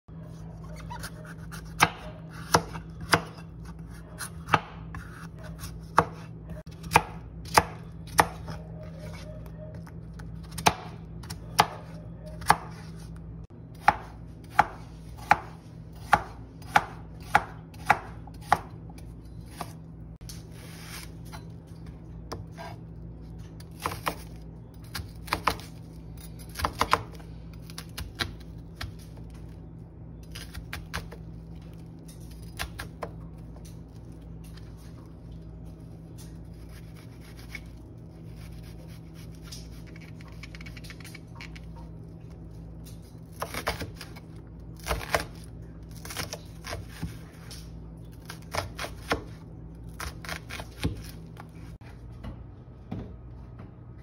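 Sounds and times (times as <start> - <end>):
steady low hum: 0.1 - 54.0.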